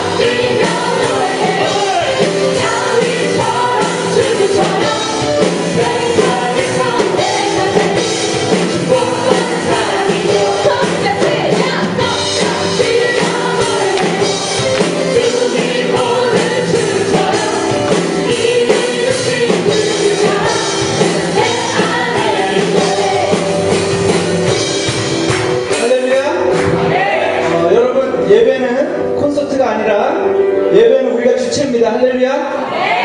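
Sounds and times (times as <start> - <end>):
people singing: 0.0 - 24.8, 26.6 - 28.2, 32.6 - 33.0
band playing worship music: 0.0 - 33.0.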